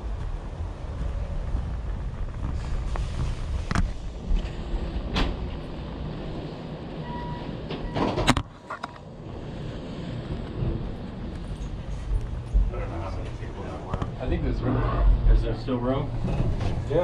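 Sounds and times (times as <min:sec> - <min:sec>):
vehicle road rumble: 0:00.0 - 0:17.0.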